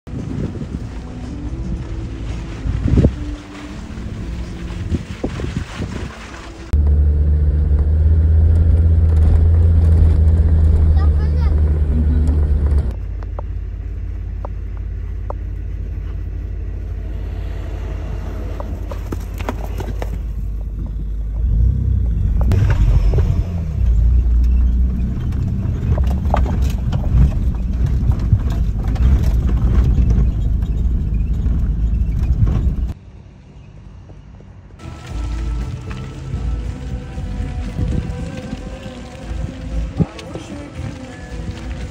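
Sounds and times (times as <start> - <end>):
vehicle engine and tyres rumbling: 0.0 - 41.9.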